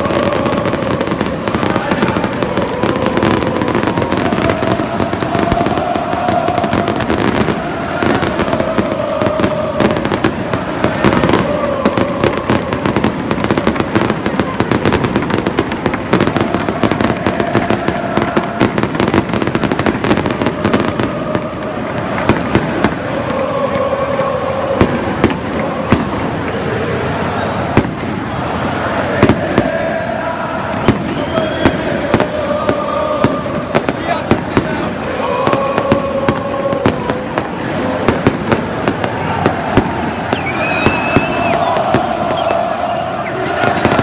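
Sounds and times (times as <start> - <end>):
fireworks crackling and popping: 0.0 - 44.0
stadium crowd singing: 0.0 - 44.0.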